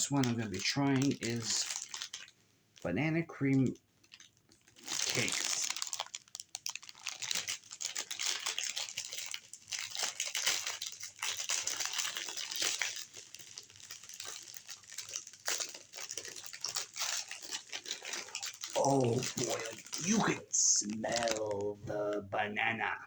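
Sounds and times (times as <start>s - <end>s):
plastic wrapper crinkling: 0.0s - 21.7s.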